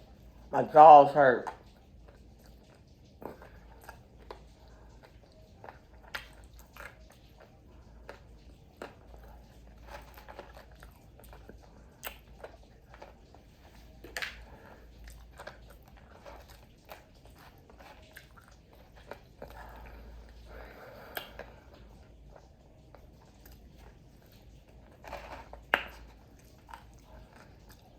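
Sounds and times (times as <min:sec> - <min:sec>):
person chewing crunchy food: 0:01.4 - 0:27.9.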